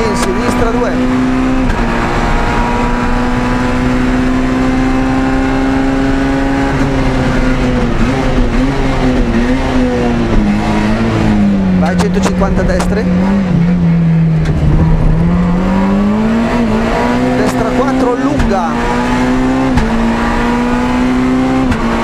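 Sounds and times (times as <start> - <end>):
car engine at high revs: 0.0 - 22.0
road and wind noise: 0.0 - 22.0.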